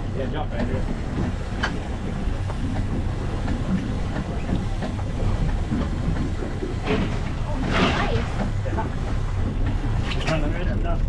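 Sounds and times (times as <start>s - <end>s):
outboard motors droning: 0.0s - 11.0s.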